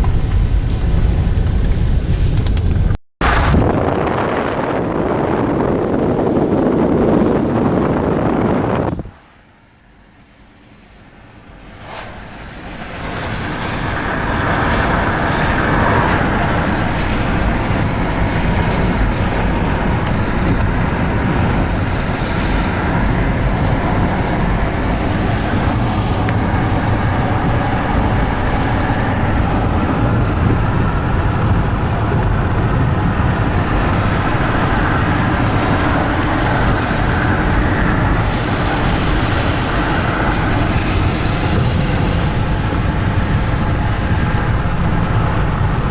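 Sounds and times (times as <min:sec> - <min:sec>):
car engine: 0:00.0 - 0:45.9
car tyre noise: 0:00.0 - 0:45.9
wind noise: 0:00.0 - 0:45.9.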